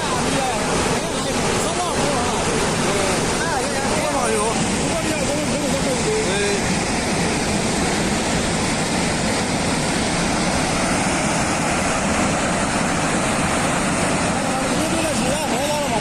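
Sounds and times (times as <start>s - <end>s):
rushing water roar: 0.0s - 16.0s.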